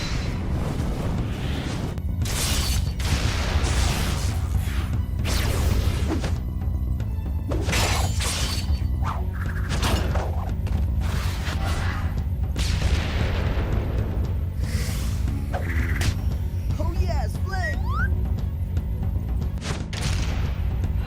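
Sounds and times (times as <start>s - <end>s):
action cartoon music: 0.0s - 21.0s.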